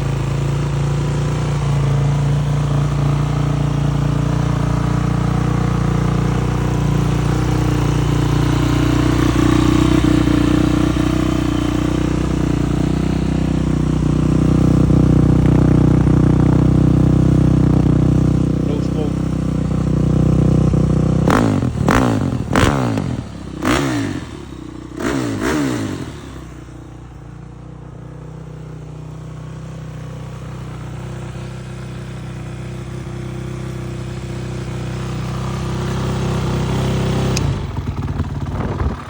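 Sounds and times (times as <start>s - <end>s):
engine idling and revving: 0.0s - 39.0s.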